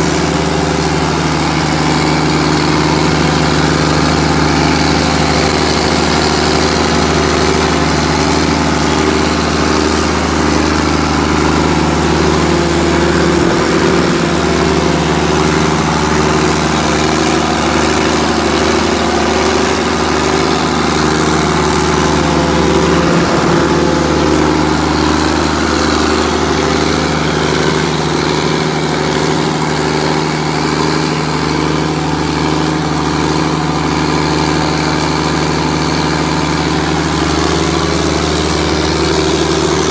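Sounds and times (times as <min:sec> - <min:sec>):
diesel generator engine droning: 0:00.0 - 0:39.9.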